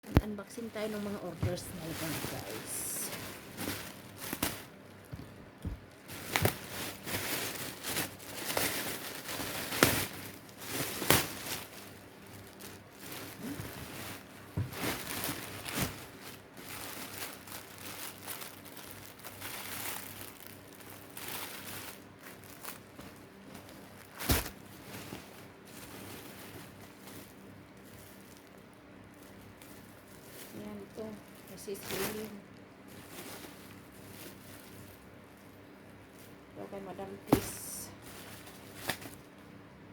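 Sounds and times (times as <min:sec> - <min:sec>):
packaging crinkling and rustling: 0:00.2 - 0:39.4.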